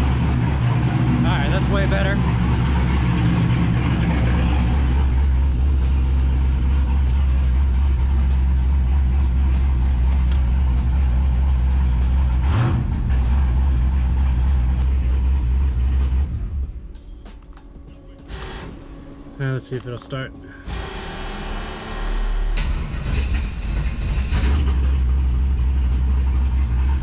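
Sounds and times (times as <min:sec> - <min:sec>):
engine switching off: 0:00.0 - 0:16.7, 0:20.7 - 0:27.0
car engine idling: 0:00.0 - 0:27.0.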